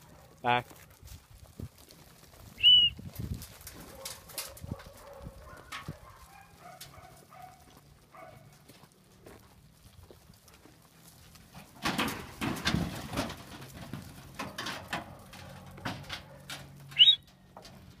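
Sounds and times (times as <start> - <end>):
hooves knocking and clattering: 0.0 - 18.0.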